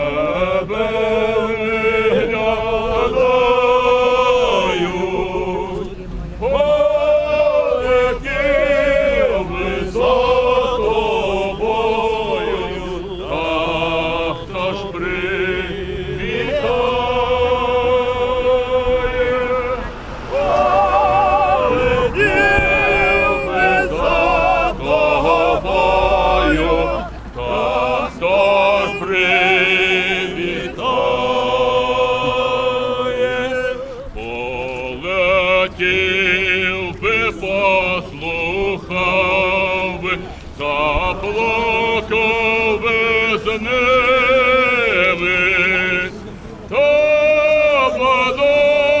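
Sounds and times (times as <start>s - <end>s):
group of people singing: 0.0s - 49.0s.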